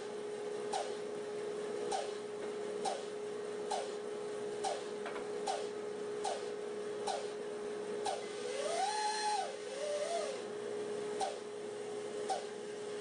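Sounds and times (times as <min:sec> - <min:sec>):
bandsaw motor hum: 0:01.8 - 0:13.0.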